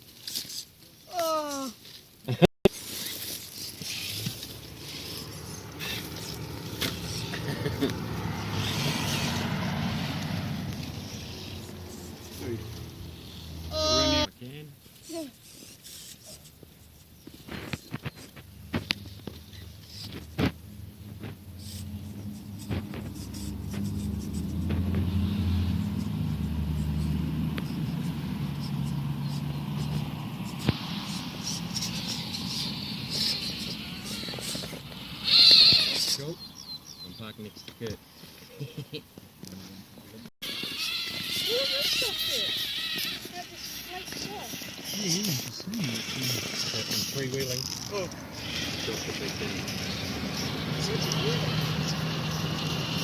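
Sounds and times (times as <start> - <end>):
toy truck electric motor and gears: 0.1 - 2.0, 2.7 - 14.3, 14.9 - 20.6, 21.2 - 36.4, 40.4 - 53.0.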